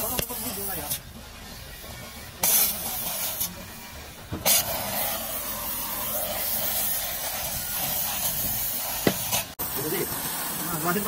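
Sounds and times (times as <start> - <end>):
hissing air or spray: 0.0 - 11.0.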